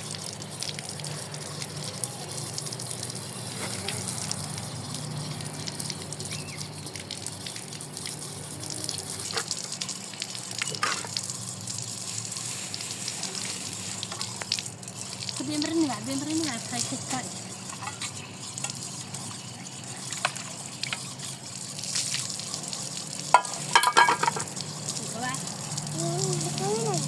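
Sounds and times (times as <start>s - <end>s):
water running from a tap: 0.0s - 27.0s.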